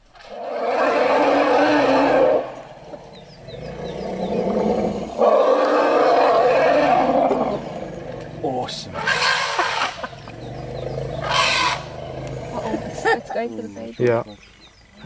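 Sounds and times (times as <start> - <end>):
elephant calls: 0.2 - 13.4.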